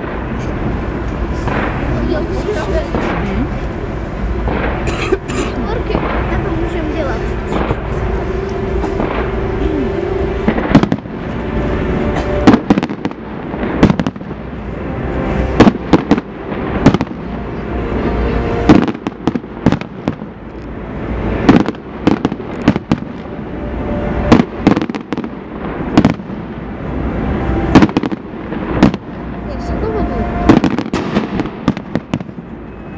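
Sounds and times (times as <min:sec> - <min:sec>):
distant fireworks rumble: 0:00.0 - 0:32.9
fireworks bangs and crackles: 0:00.0 - 0:32.9.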